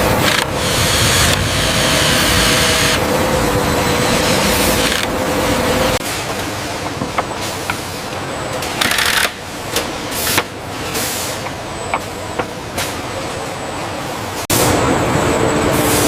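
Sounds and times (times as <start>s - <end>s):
steady machinery noise: 0.0s - 16.0s.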